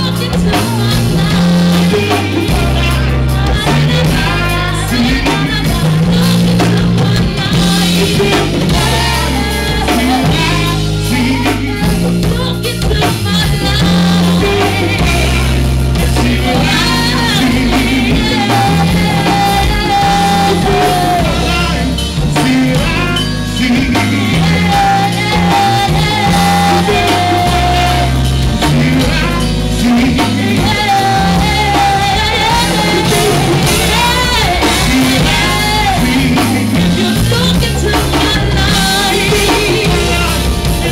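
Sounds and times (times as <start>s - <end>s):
live band playing: 0.0s - 40.9s
person singing: 0.0s - 40.9s.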